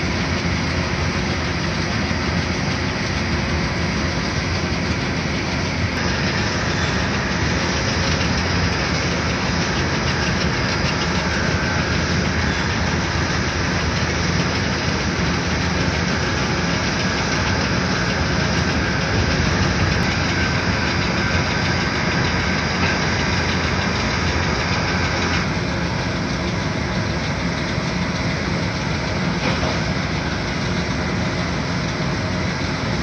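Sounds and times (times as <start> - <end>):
engines rumbling: 0.0 - 33.0.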